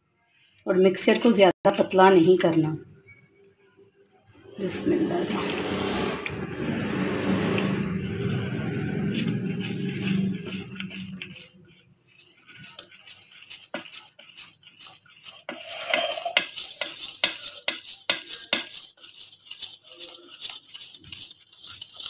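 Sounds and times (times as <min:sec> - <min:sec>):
spoon stirring batter in a bowl: 0:03.8 - 0:22.0.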